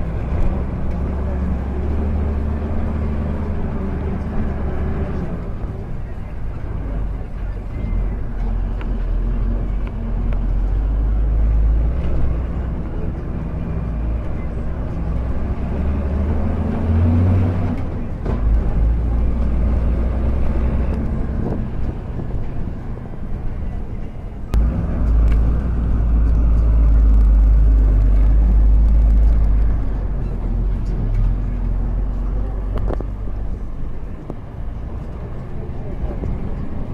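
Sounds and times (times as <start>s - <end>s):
bus rumbling on gravel road: 0.0s - 36.9s.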